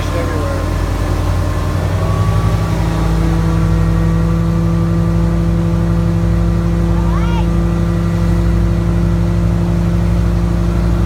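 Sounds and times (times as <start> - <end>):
powerboat engine running: 0.0 - 11.0.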